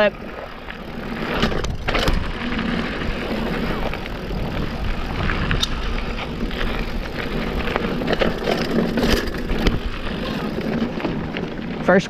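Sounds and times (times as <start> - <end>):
bike rattling over bumps: 0.0 - 12.0
bike tyres rolling over dirt: 0.0 - 12.0.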